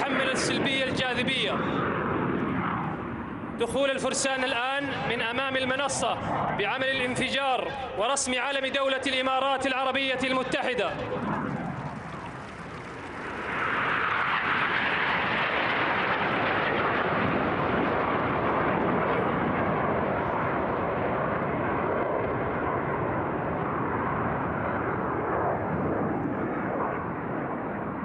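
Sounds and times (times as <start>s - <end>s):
jets flying past low: 0.0s - 28.0s.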